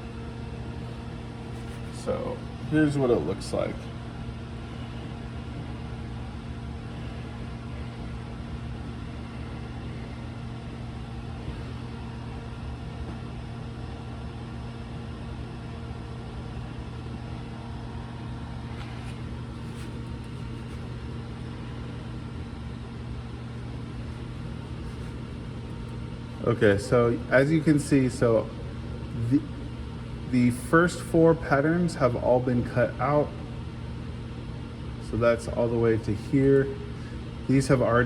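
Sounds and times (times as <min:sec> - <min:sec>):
machinery electrical hum: 0:00.0 - 0:38.0.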